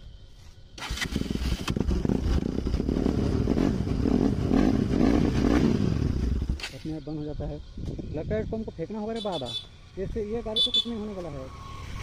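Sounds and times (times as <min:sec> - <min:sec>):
motorcycle engine starting and running: 0:00.7 - 0:12.0.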